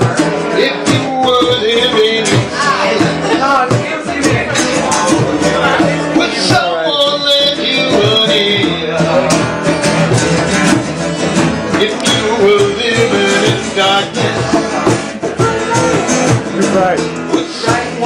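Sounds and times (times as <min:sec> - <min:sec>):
guitar accompaniment: 0:00.0 - 0:18.0
man singing: 0:00.0 - 0:18.0.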